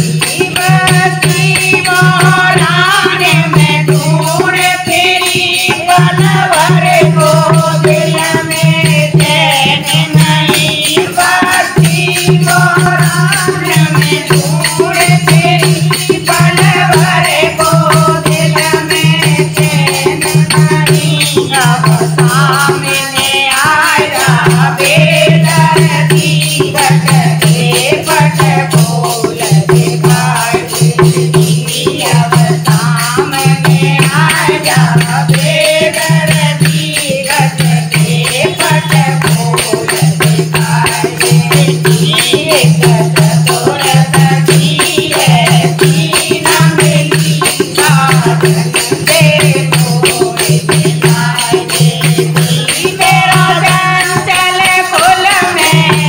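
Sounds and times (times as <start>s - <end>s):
jingling tambourine: 0.0s - 56.0s
women singing in unison: 0.0s - 56.0s.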